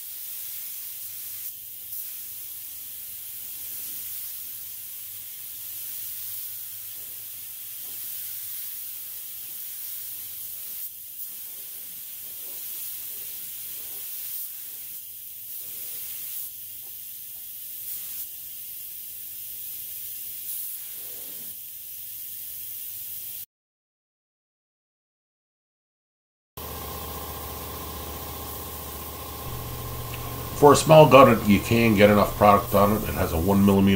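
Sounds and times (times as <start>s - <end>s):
spray gun hissing: 0.0s - 23.4s, 26.6s - 33.9s.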